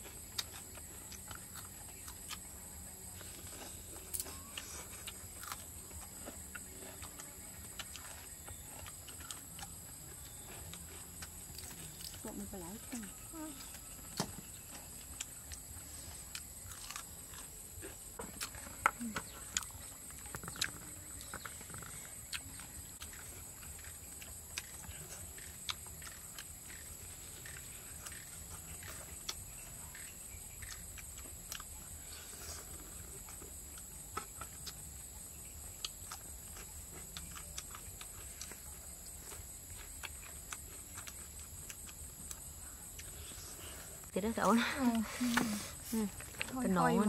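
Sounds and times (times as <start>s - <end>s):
crunchy chewing: 0.0s - 47.0s.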